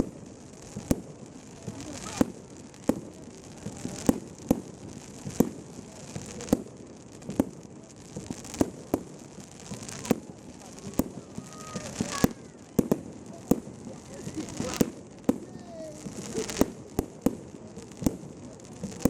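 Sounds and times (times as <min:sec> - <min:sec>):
fireworks exploding: 0:00.0 - 0:19.0.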